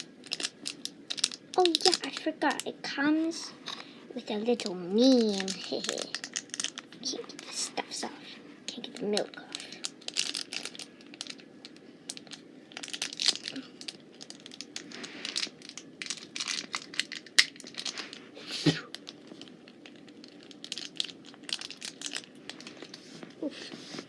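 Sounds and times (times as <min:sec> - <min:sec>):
plastic packaging crinkling: 0:00.0 - 0:02.8, 0:03.6 - 0:24.0.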